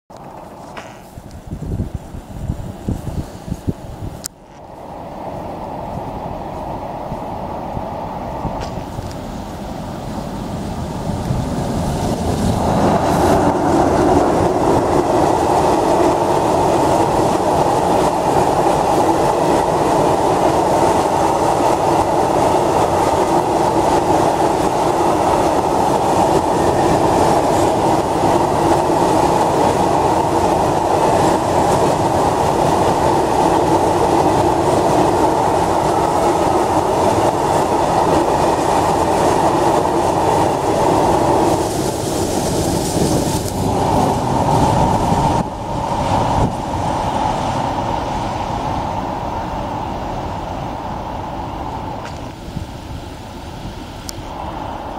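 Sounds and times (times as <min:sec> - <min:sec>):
freight train wheels rumbling: 0:00.1 - 0:54.9.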